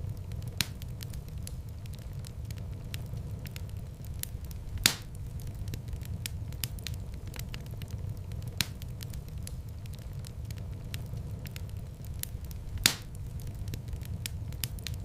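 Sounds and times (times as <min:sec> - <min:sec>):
loud fire pops: 0:00.0 - 0:15.0
wood fire rumbling and crackling: 0:00.0 - 0:15.0.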